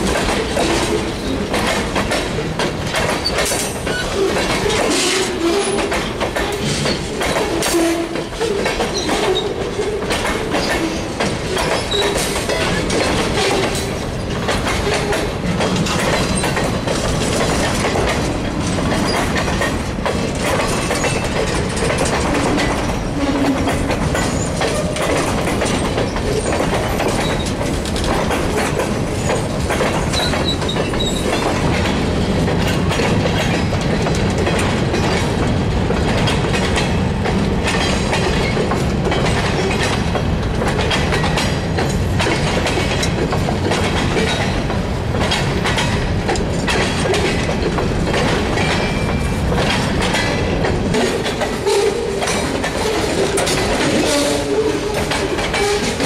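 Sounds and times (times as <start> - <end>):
train rumble: 0.0 - 56.0
train wheels clicking over rail joints: 0.0 - 56.0.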